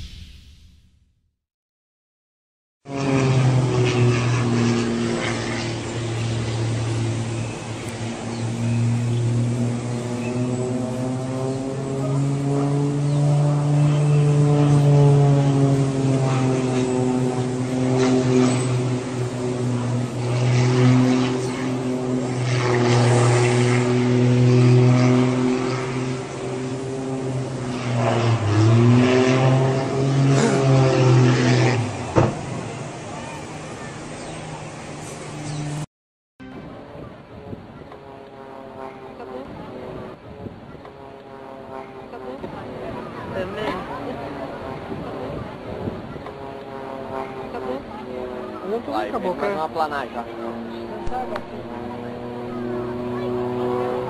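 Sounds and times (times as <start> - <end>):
propeller aircraft engine droning: 2.8 - 54.0.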